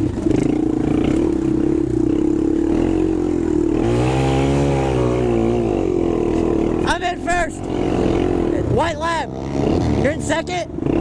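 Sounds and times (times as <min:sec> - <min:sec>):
quad engine running hard: 0:00.0 - 0:11.0.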